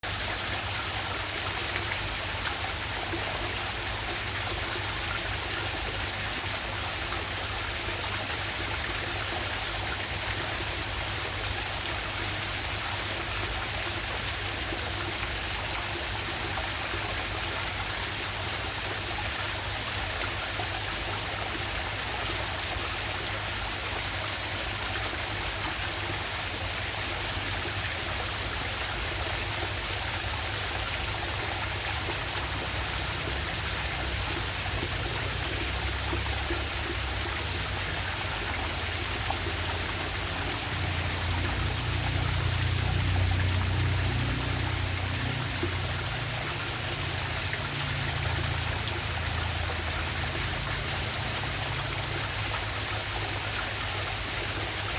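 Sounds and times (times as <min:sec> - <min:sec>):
waterfall rushing and splashing: 0:00.0 - 0:54.9.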